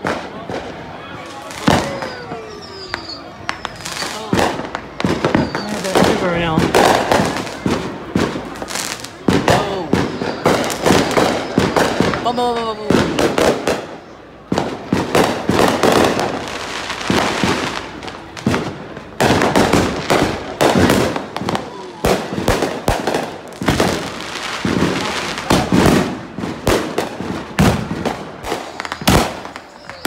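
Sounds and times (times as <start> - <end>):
fireworks banging and crackling: 0.0 - 30.0.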